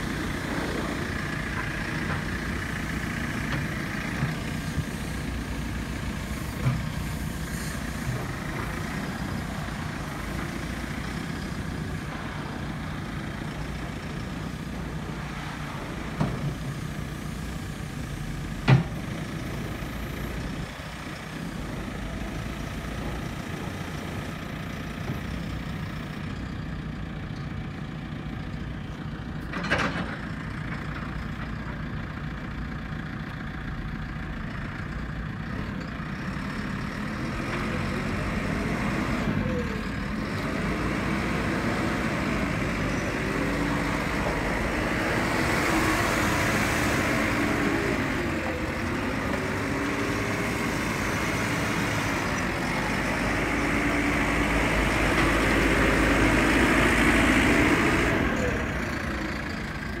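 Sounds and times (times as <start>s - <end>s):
diesel engine of digger running: 0.0s - 60.0s.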